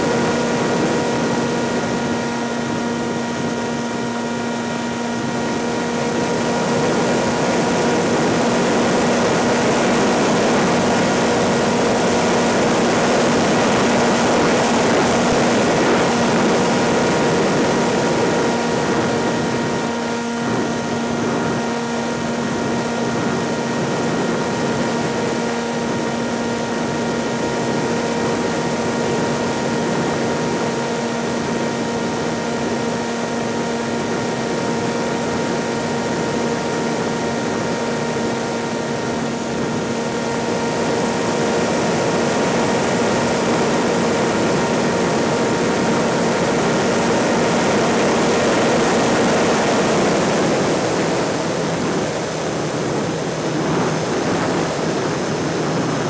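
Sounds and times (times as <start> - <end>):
propeller aircraft engine: 0.0 - 56.0.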